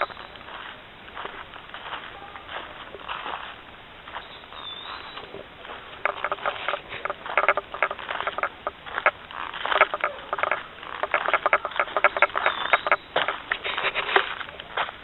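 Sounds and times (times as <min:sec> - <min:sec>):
footsteps crunching on dry leaves: 0:00.0 - 0:15.0.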